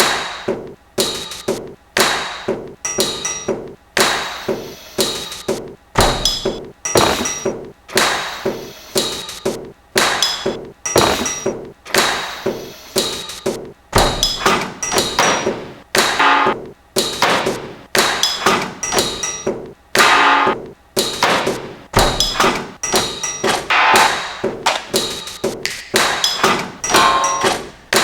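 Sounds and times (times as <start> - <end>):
sharp ringing knocks: 0.0 - 8.3, 9.0 - 12.3, 13.0 - 28.0.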